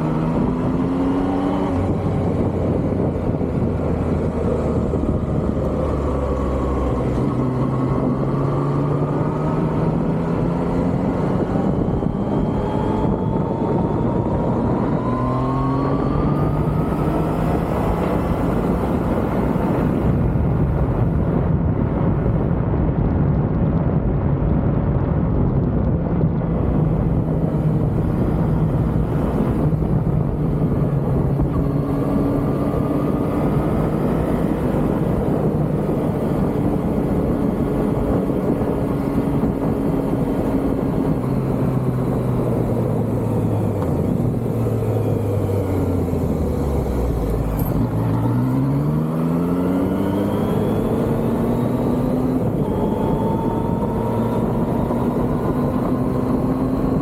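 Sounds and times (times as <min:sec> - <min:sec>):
motorcycle engine revving: 0:00.0 - 0:21.6, 0:26.4 - 0:57.0
wind noise: 0:00.0 - 0:57.0.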